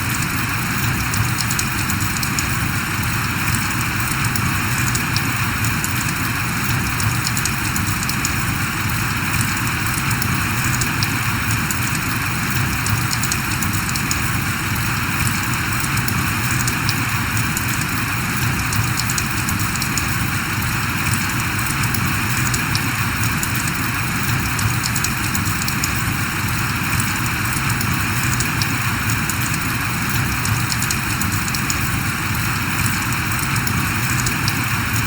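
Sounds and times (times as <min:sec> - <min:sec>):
rain drops ticking: 0:00.0 - 0:35.0.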